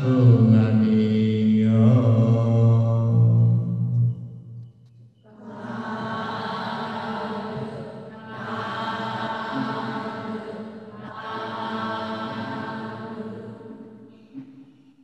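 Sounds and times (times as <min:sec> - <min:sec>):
devotional chanting: 0:00.0 - 0:04.6, 0:05.3 - 0:14.8.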